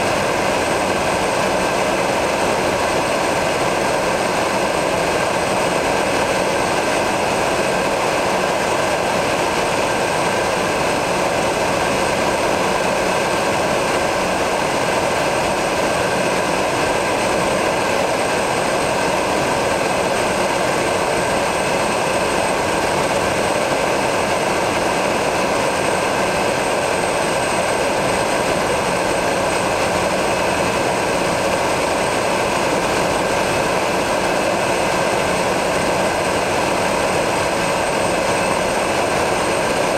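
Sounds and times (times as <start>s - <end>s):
turboprop engine drone: 0.0s - 39.9s.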